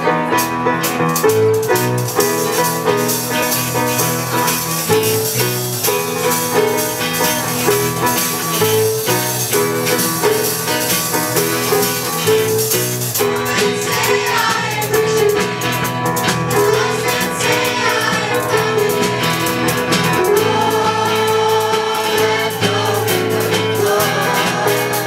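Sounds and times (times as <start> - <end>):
keyboard chords: 0.0 - 25.0
shaker keeping a steady beat: 0.8 - 25.0.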